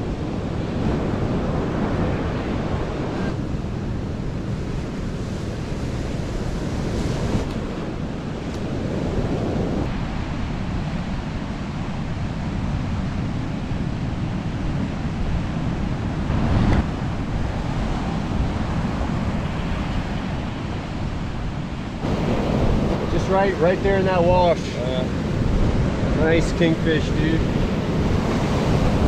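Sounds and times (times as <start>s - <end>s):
ocean surf breaking: 0.0s - 29.0s
wind on microphone: 0.0s - 29.0s.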